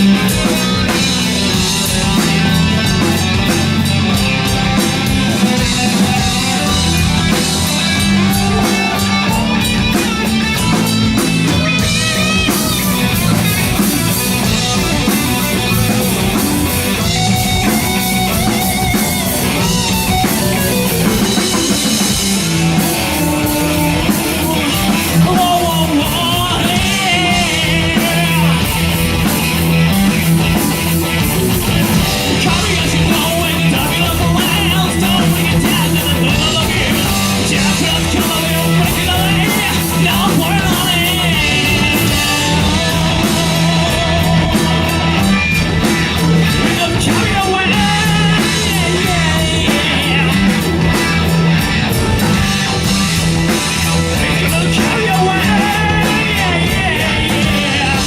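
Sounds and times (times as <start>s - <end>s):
bass line: 0.0s - 58.0s
drum kit: 0.0s - 58.0s
electric guitar: 0.0s - 58.0s.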